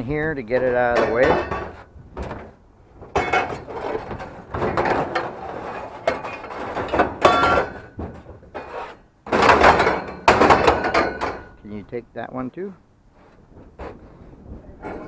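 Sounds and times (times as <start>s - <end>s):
scrap clattering and scraping: 0.4s - 11.6s, 13.2s - 15.0s.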